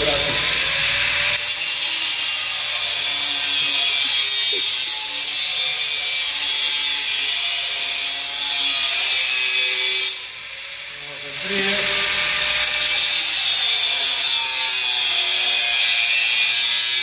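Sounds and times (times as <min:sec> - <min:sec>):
angle grinder cutting steel: 0:00.0 - 0:17.0.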